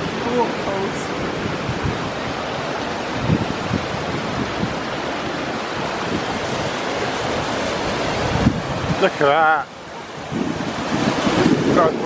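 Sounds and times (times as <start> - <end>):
waterfall rushing: 0.0 - 12.0
wind on microphone: 0.0 - 12.0.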